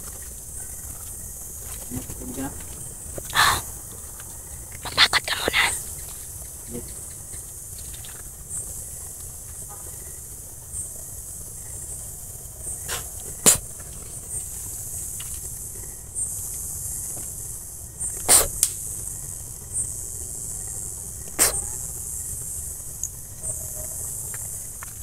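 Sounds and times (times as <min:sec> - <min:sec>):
night insects chirring: 0:00.0 - 0:25.0.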